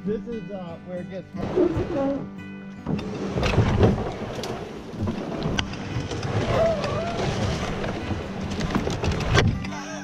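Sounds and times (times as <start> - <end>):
kayak hull scraping over grass: 1.3 - 9.8.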